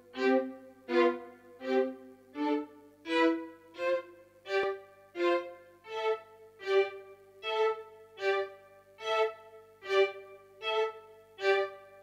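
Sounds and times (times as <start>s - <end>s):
sampled violin notes: 0.0s - 12.0s.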